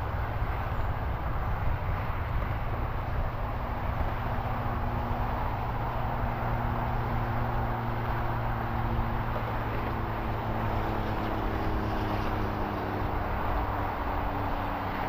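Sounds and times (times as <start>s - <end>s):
distant engine rumble: 0.0s - 15.0s.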